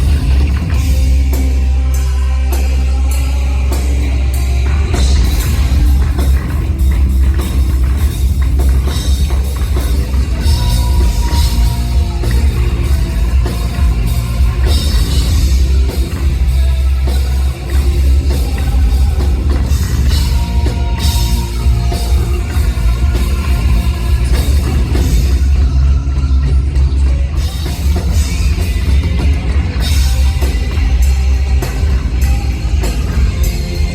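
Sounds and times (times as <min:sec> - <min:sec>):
live hard rock band: 0:00.0 - 0:33.9.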